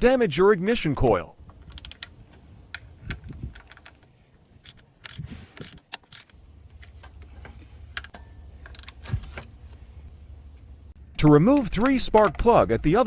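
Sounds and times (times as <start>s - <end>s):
low steady hum: 1.1s - 13.0s.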